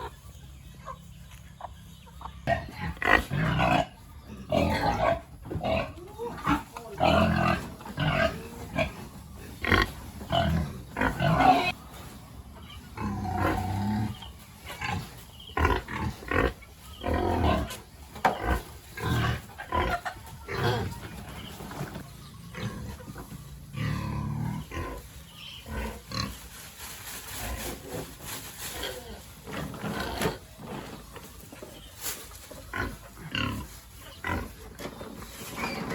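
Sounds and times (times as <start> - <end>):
pigs grunting: 2.4 - 11.8, 12.8 - 26.6, 27.4 - 31.1, 32.6 - 35.9.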